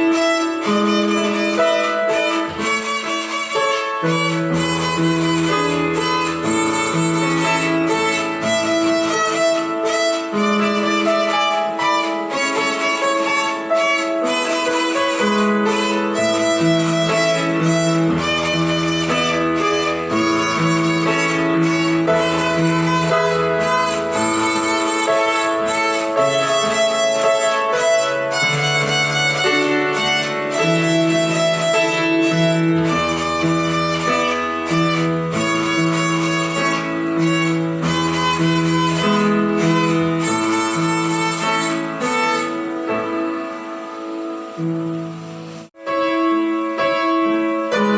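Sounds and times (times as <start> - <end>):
violin melody: 0.0 - 47.9.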